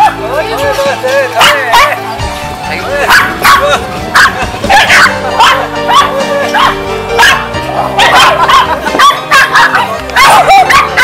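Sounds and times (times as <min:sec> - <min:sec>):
dogs barking and yipping: 0:00.0 - 0:11.0
upbeat background music: 0:00.0 - 0:11.0.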